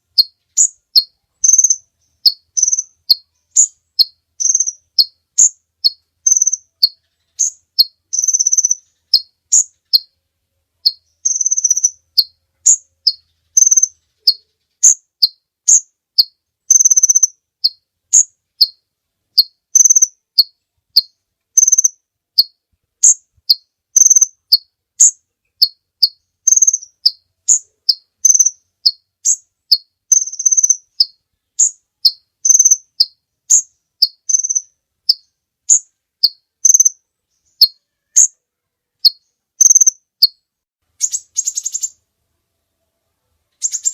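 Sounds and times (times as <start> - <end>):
bird chirping and trilling: 0.0 - 10.2, 10.8 - 18.8, 19.4 - 38.4, 39.0 - 42.0, 43.6 - 43.9.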